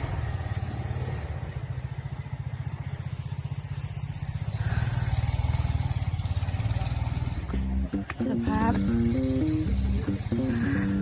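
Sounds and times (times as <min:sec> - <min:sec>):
motorcycle engine throbbing: 0:00.0 - 0:11.0.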